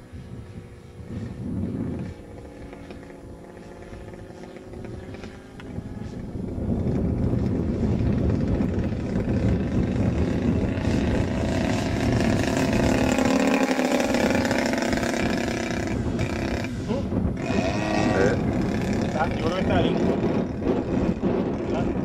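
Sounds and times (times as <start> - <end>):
model plane engine passing: 0.0 - 22.0.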